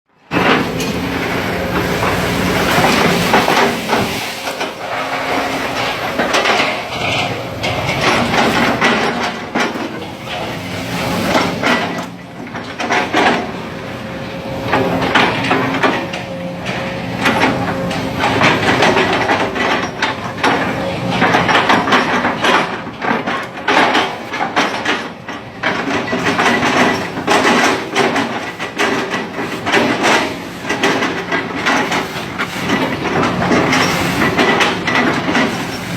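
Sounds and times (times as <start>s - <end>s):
excavator diesel engine running: 0.2s - 35.9s
metal clanks and knocks: 0.3s - 35.9s.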